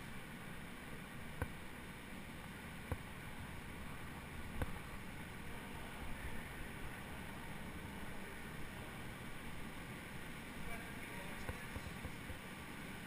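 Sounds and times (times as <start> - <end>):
steady low noise: 0.0 - 13.0.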